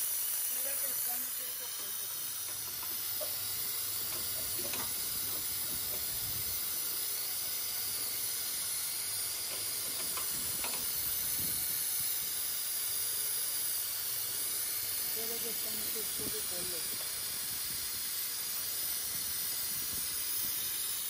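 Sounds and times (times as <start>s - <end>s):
gas hissing from a pipe: 0.0s - 21.0s.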